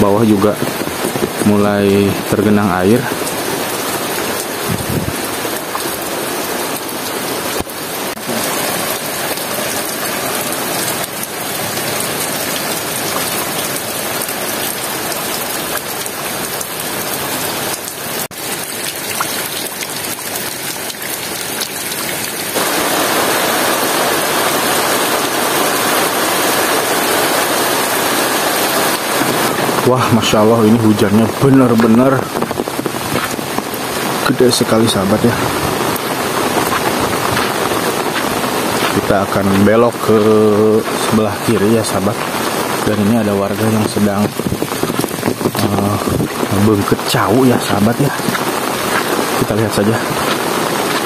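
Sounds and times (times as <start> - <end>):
heavy rain on ponds and leaves: 0.0 - 51.0.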